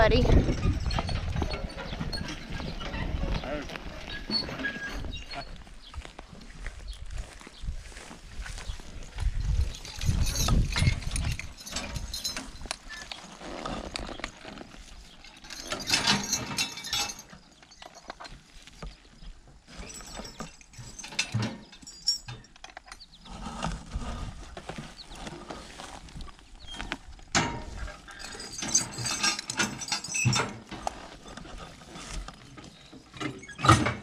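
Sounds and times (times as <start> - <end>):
metal harness clinking and rattling: 0.0 - 6.1, 8.5 - 23.9, 26.6 - 34.0
horses shifting about: 0.0 - 34.0.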